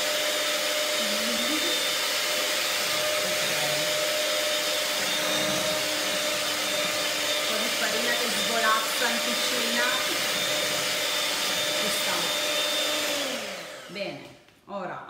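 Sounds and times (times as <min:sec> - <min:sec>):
electric hand mixer whisking: 0:00.0 - 0:14.2.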